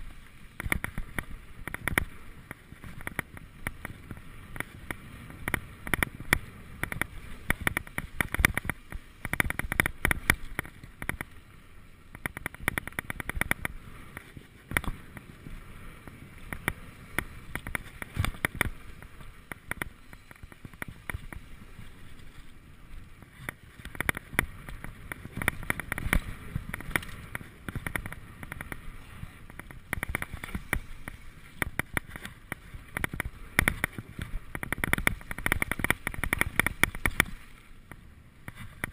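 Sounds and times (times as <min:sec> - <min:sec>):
bike rattling over bumps: 0:00.0 - 0:38.9
wind rumble on microphone: 0:00.0 - 0:38.9.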